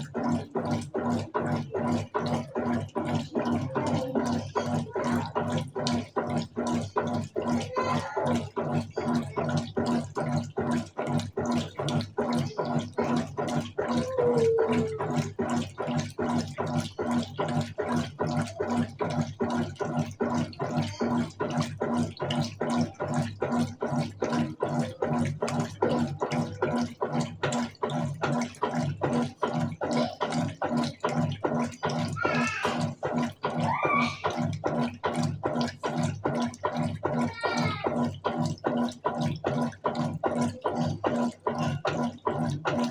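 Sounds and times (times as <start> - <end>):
motor hum: 0.0 - 42.9
water sloshing in washing machine: 0.0 - 42.9.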